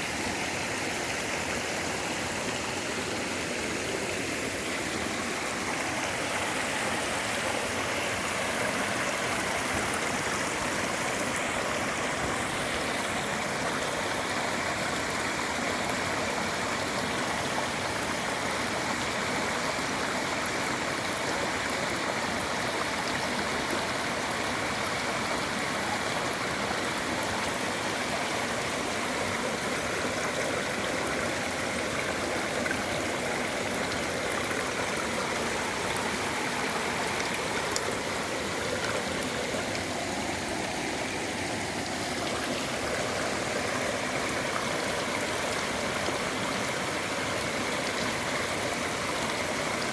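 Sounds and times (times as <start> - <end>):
stream water flowing: 0.0 - 49.9.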